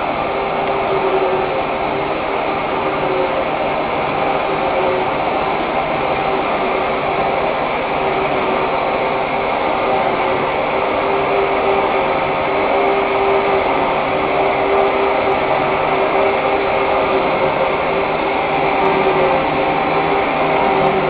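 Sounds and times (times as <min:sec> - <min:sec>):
gear-cutting machine running: 0:00.0 - 0:21.0.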